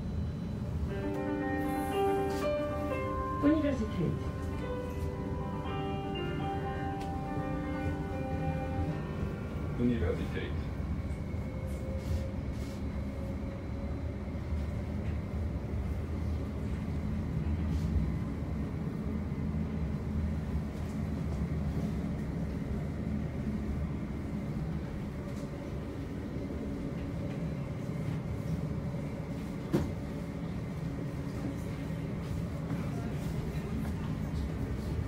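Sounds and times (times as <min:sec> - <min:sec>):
tram rolling rumble: 0:00.0 - 0:35.0.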